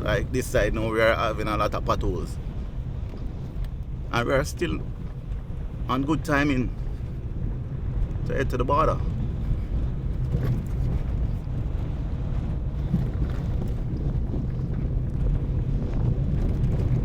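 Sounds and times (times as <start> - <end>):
car driving on rough road: 0.0 - 17.0
engine and tyre rumble: 0.0 - 17.0.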